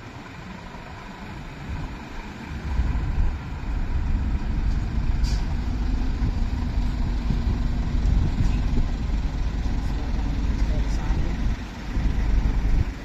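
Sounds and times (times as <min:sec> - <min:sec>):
lorry diesel engine rumbling: 0:00.0 - 0:13.0.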